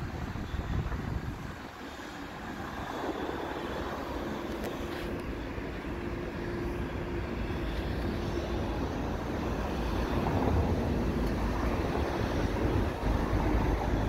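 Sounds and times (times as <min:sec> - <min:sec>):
distant trains rumbling: 0:00.0 - 0:14.0
faint steady hum: 0:00.0 - 0:14.0.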